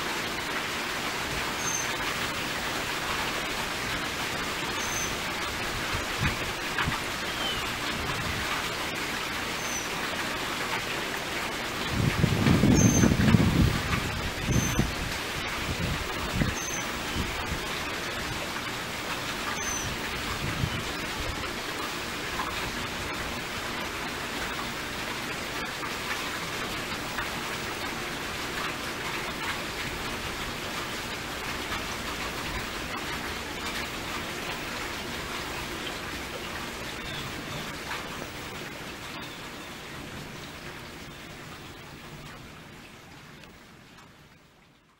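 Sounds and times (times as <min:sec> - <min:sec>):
rain on leaves: 0:00.0 - 0:44.9.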